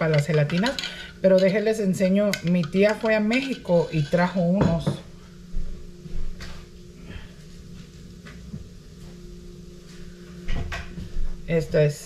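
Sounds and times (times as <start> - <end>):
low electrical appliance hum: 0.0 - 12.0.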